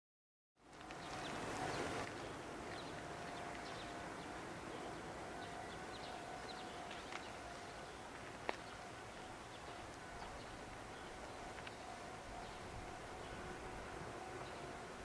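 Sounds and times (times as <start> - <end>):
steady hiss: 0.8 - 15.0
bird chirps: 1.0 - 13.5
thin steady tone: 1.0 - 15.0.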